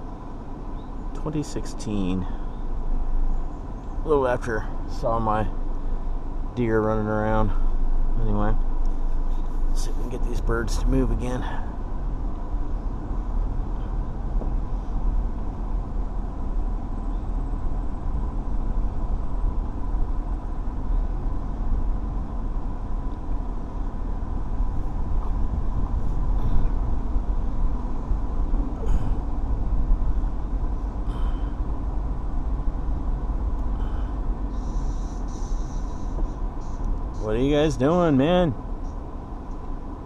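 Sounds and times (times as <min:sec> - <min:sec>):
car engine and road noise: 0:00.0 - 0:40.0
faint steady tone: 0:00.0 - 0:40.0.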